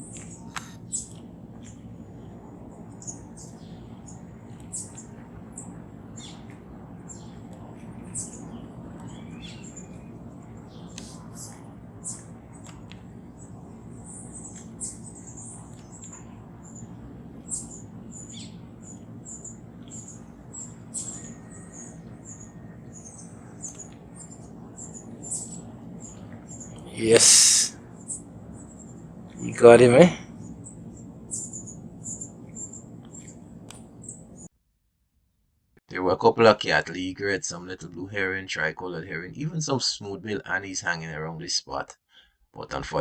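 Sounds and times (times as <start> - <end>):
low background rumble: 0.0 - 34.5
small birds chirping: 0.0 - 34.5.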